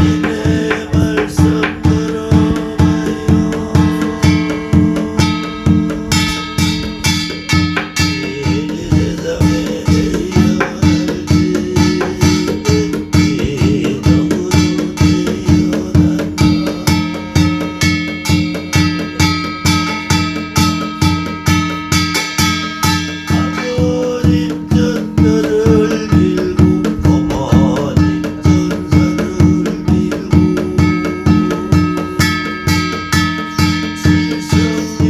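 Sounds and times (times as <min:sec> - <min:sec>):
barrel drum beat: 0:00.0 - 0:35.0.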